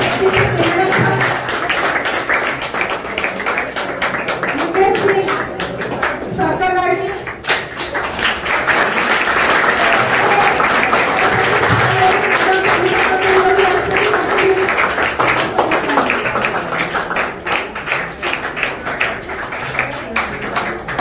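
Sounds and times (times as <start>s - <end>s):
audience applauding: 0.0s - 6.4s, 7.2s - 21.0s.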